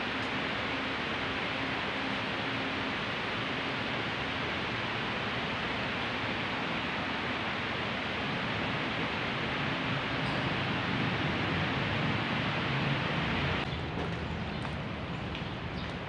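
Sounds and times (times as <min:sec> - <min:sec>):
hiss-like church ambience: 0:00.0 - 0:13.6.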